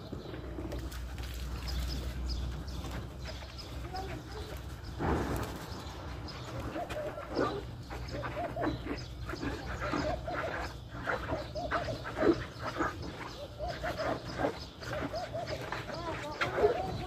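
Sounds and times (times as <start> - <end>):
animal calls: 0.0 - 17.0.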